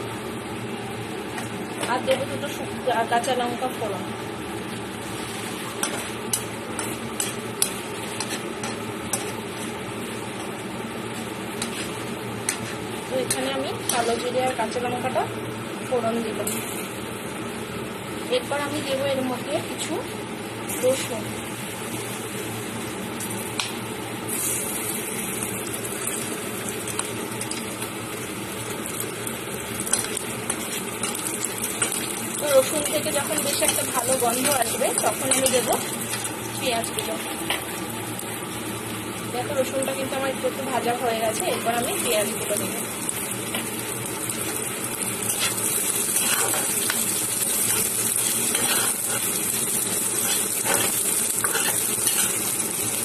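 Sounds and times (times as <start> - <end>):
seeds and chillies sizzling in oil: 0.0 - 53.0.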